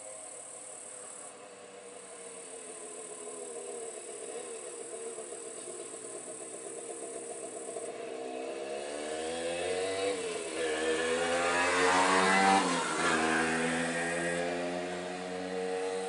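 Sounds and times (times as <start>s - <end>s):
vehicle engine accelerating: 0.0s - 16.0s.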